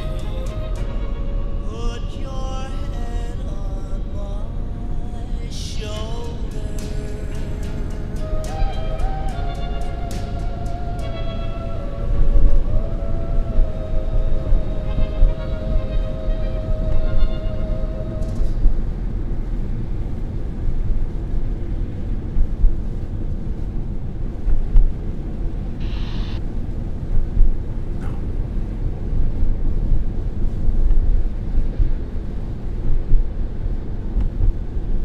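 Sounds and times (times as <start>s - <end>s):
car interior rumble: 0.0s - 35.0s.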